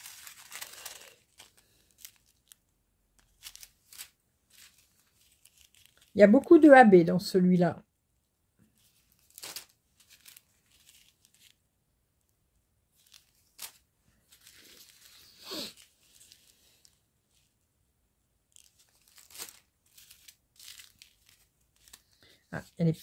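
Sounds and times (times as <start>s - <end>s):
plastic bags crinkling: 0.0s - 6.2s, 8.7s - 11.7s, 12.9s - 17.6s, 18.4s - 23.0s.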